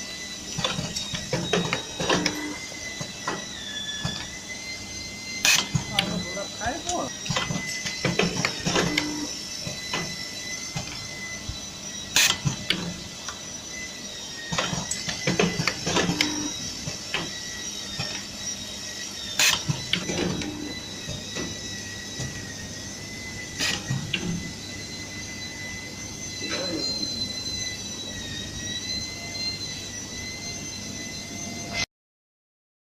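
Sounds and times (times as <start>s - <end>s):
faint high whine: 0.0s - 31.9s.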